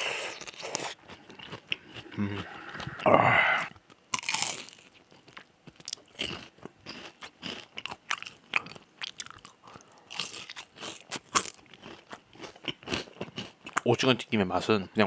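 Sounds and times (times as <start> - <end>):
crunching and chewing fried food: 0.0 - 14.0.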